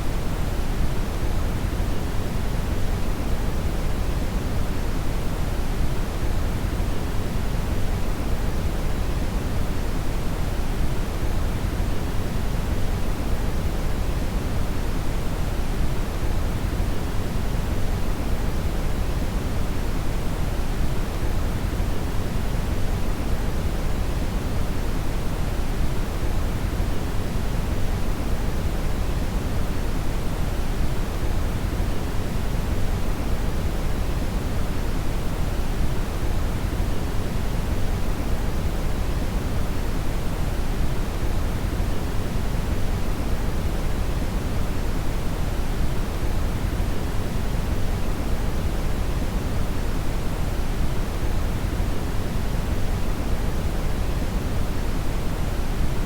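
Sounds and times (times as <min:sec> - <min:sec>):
brown noise hiss: 0:00.0 - 0:56.0.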